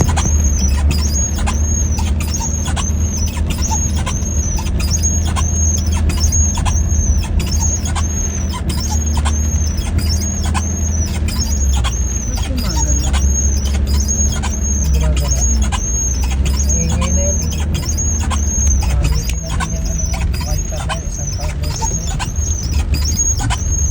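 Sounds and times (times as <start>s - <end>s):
car engine drone: 0.0s - 23.9s
short high squeak: 0.0s - 23.9s.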